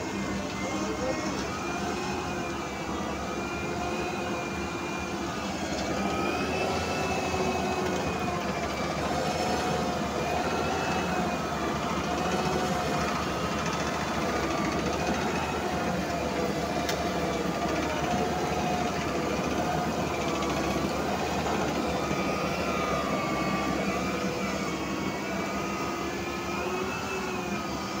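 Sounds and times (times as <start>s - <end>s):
machine drone with wavering whine: 0.0s - 28.0s.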